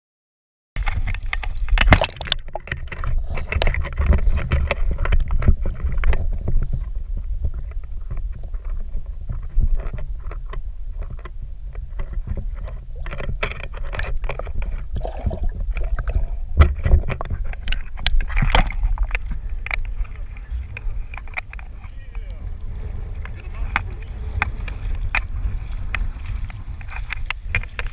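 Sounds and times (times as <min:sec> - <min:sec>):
constant low rumble: 0:00.8 - 0:27.9
water sloshing and splashing: 0:00.8 - 0:27.9.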